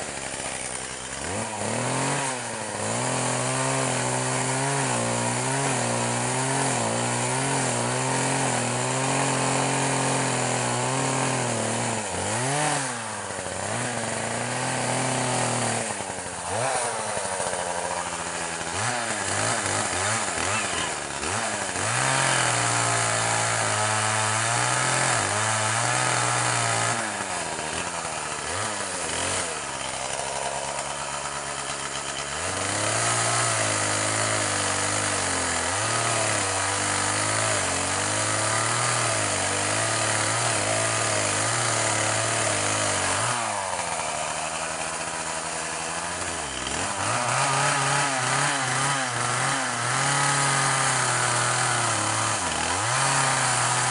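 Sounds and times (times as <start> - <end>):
chainsaw cutting logs: 0.0 - 53.9.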